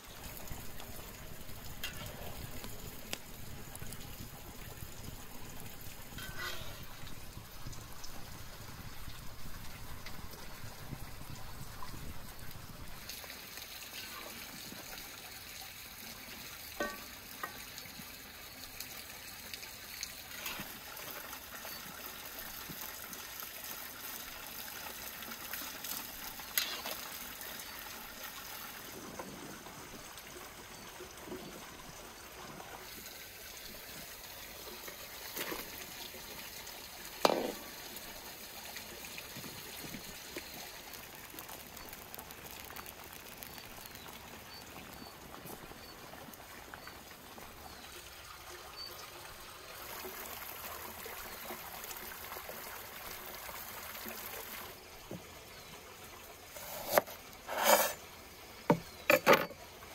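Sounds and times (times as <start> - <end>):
broth trickling and dripping: 0.0 - 59.9.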